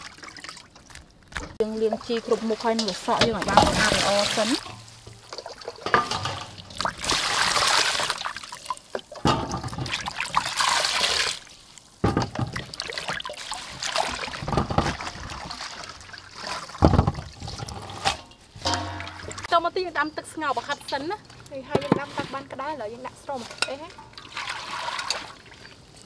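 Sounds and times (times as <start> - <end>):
water sloshing in a steel bowl: 0.0 - 19.6, 20.2 - 26.0.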